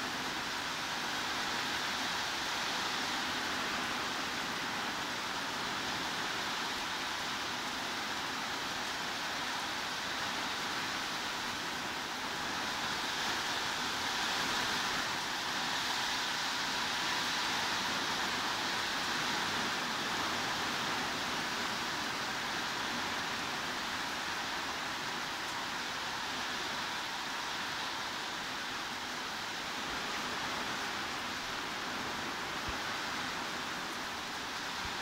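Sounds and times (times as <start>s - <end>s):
heavy rain hiss: 0.0s - 35.0s.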